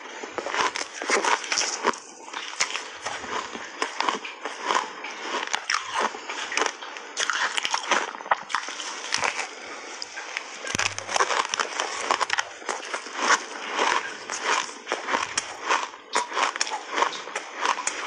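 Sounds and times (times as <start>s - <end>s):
ice crunching between teeth: 0.2s - 18.0s.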